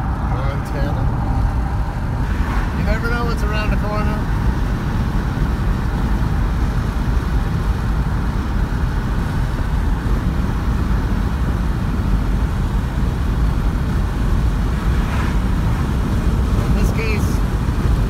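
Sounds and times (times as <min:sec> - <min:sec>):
car driving on highway: 0:00.0 - 0:18.0.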